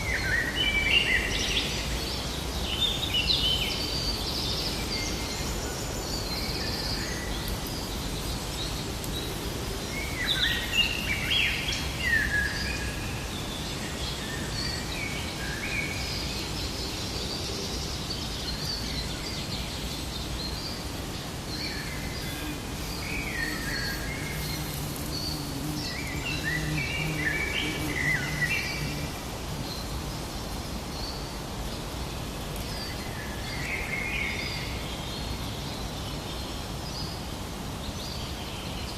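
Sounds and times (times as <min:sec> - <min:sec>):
birds singing and chirping: 0:00.0 - 0:32.0
outdoor background noise: 0:00.0 - 0:38.9.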